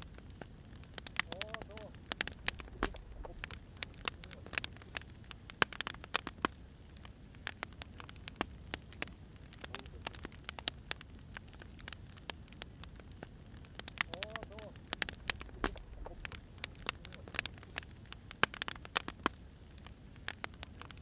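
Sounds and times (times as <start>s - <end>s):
soft steady hiss: 0.0s - 21.0s
wood fire crackling: 0.0s - 21.0s.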